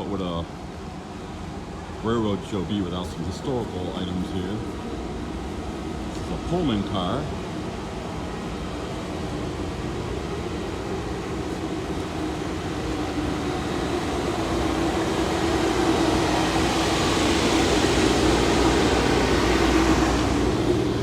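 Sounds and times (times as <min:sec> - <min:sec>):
engine drone: 0:02.0 - 0:21.0.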